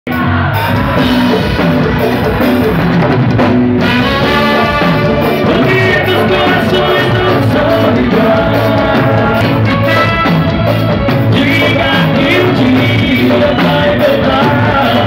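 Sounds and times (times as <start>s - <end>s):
band dance music: 0.1s - 15.0s
drum kit beat: 0.1s - 15.0s.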